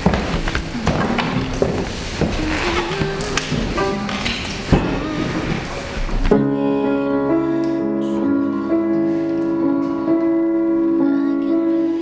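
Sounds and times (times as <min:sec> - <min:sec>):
grand piano chords: 0:00.0 - 0:12.0.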